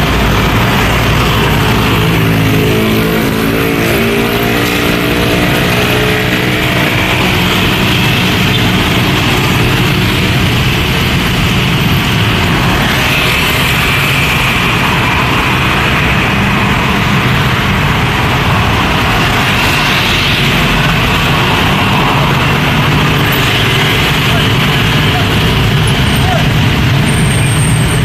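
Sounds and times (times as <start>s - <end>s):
car passing: 0.0s - 23.3s
motorbikes passing: 0.0s - 28.0s.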